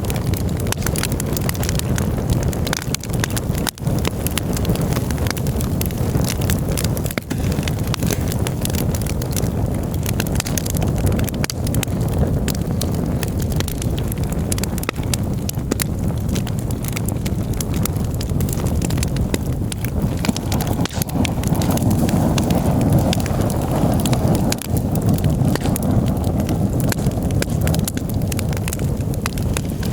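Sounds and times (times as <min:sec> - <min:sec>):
campfire crackling and popping: 0:00.0 - 0:29.9
steady low rumble: 0:00.0 - 0:29.9.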